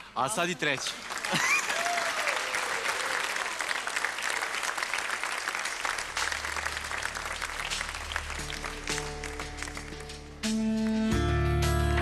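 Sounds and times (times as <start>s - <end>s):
audience applauding: 0.3s - 10.5s.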